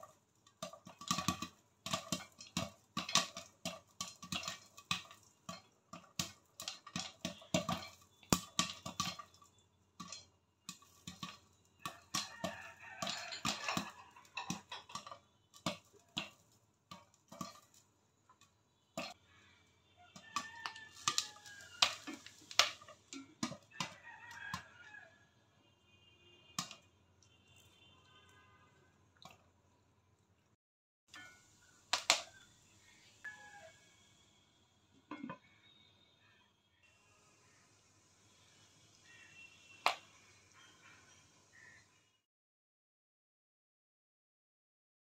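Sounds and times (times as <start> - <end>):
popcorn popping in a pan: 0.0 - 25.1, 26.4 - 29.6, 31.1 - 35.6, 36.9 - 42.1.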